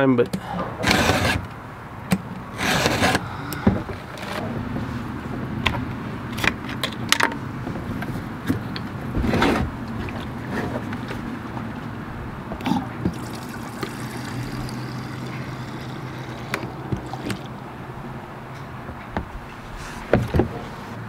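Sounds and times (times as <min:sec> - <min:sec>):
steady low hum: 0:00.3 - 0:21.0.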